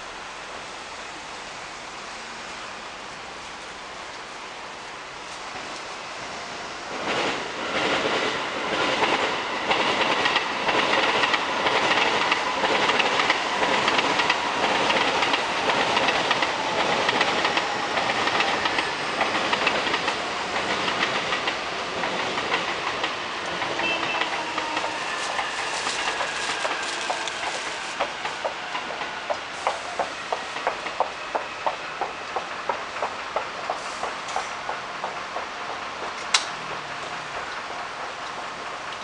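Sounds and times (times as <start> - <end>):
train wheels clacking on rails: 6.9 - 39.0.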